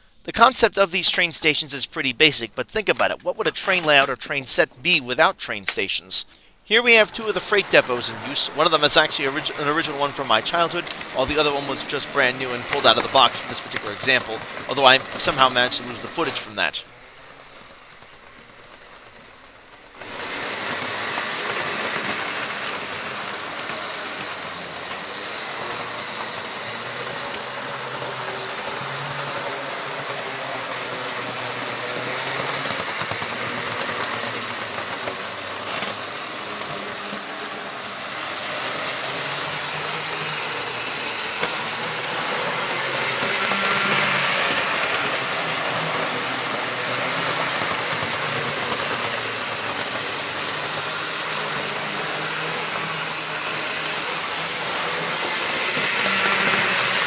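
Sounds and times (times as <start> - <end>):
model trains whirring on rails: 0.0 - 57.0.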